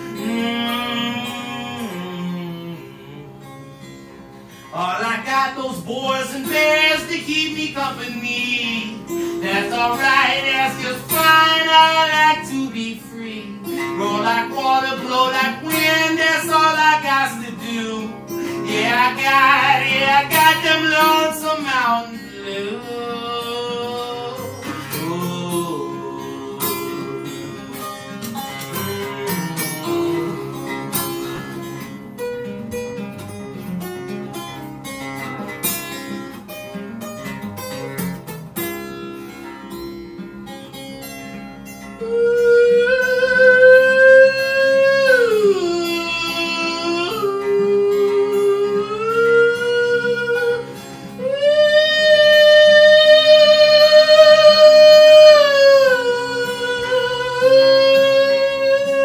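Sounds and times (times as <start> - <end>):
acoustic blues guitar: 0.0 - 59.0.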